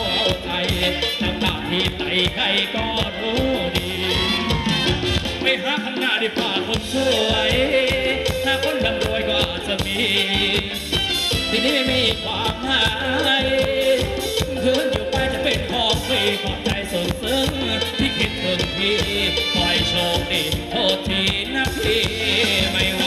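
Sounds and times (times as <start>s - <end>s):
live band dance music: 0.0s - 23.0s
person singing: 0.0s - 23.0s.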